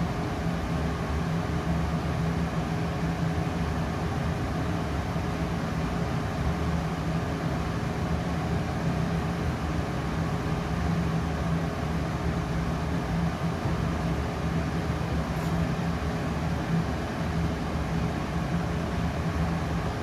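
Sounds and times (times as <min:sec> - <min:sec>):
fan noise: 0:00.0 - 0:20.0
laser cutter humming: 0:03.6 - 0:20.0.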